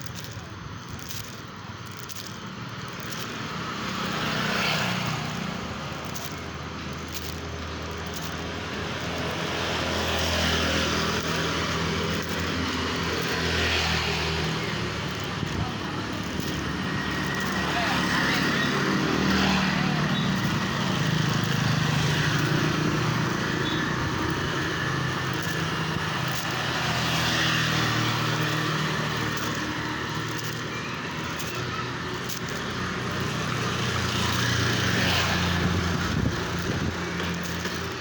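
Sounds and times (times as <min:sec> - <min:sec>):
road noise: 0:00.0 - 0:38.0
vehicle engine hum: 0:00.0 - 0:38.0.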